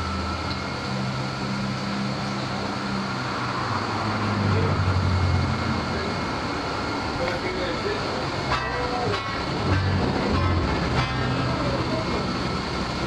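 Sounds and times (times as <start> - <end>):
machine droning: 0.0 - 13.0.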